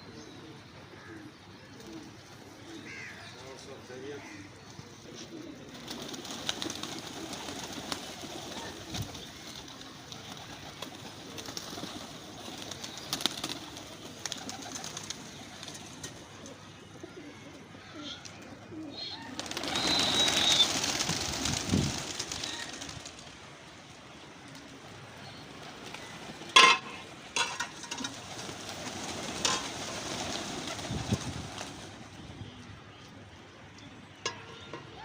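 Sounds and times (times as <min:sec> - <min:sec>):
pigeons cooing: 0:00.0 - 0:23.4, 0:24.3 - 0:33.4, 0:34.0 - 0:35.0.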